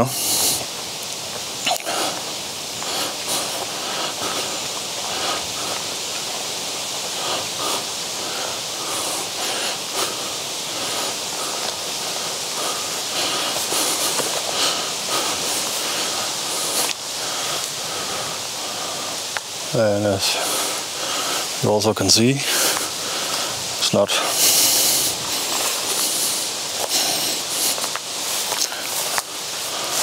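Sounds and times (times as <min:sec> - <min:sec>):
footsteps crunching through grass: 0:00.0 - 0:17.8, 0:21.5 - 0:30.0
outdoor hiss: 0:00.0 - 0:30.0.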